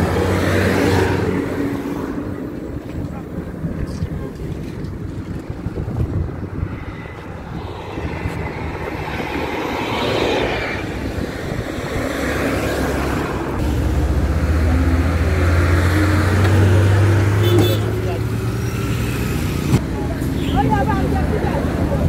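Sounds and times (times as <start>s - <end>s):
road noise rush: 0.0s - 22.0s.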